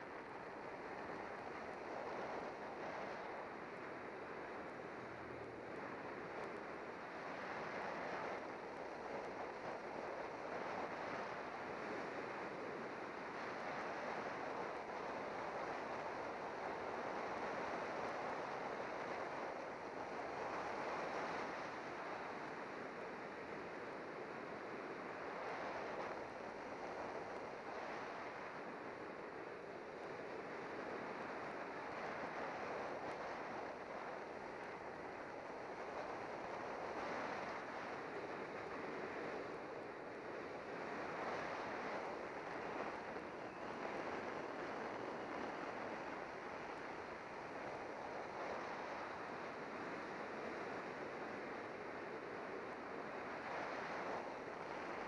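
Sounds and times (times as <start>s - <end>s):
wind rushing over a microphone: 0.0s - 55.0s.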